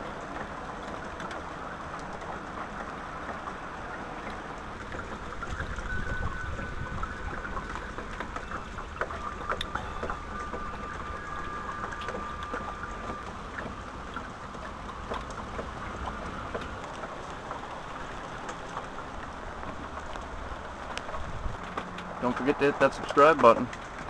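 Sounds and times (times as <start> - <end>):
steady rain: 0.0 - 24.0
drops ticking on surfaces: 4.2 - 24.0.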